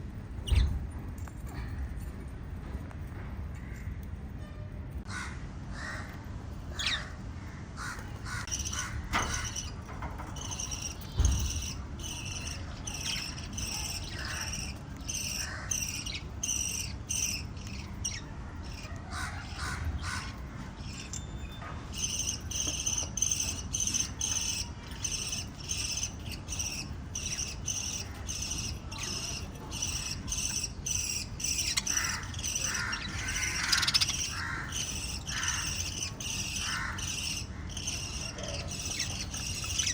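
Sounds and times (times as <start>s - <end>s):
lovebirds chirping: 0.2s - 2.1s, 5.8s - 39.9s.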